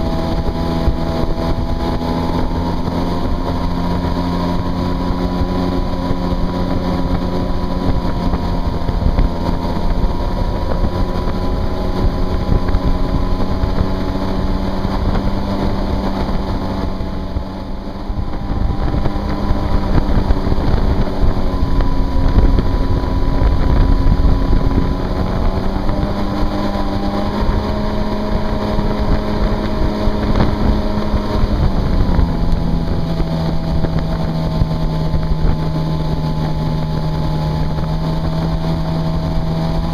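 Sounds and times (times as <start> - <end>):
rush of water and spray: 0.0 - 39.9
watercraft engine drone: 0.0 - 39.9.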